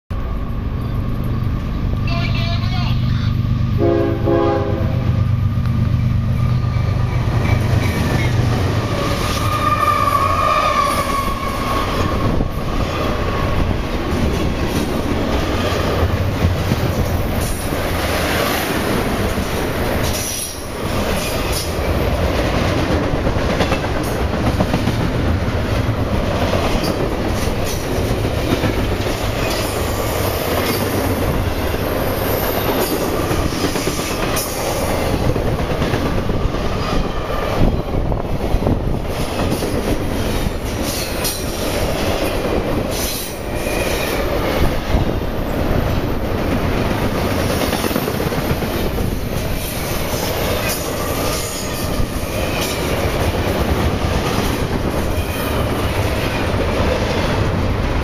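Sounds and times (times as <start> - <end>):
train wheels rumbling on rail: 0.1 - 58.0.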